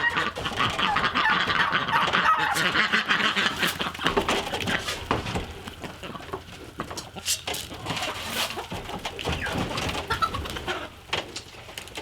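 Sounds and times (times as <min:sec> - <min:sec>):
ducks and chickens calling: 0:00.0 - 0:12.0.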